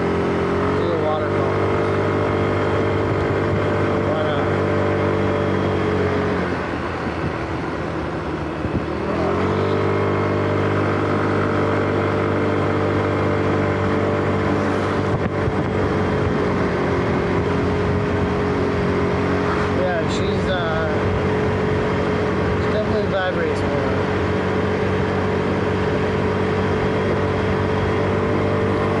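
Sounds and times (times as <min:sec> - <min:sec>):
motorbike engine running: 0:00.0 - 0:29.0.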